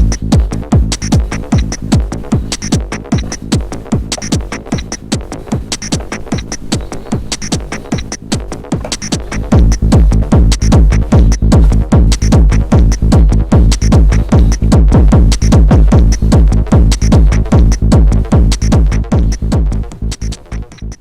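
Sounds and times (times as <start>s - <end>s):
heavy low bass: 0.0s - 6.5s, 7.9s - 21.0s.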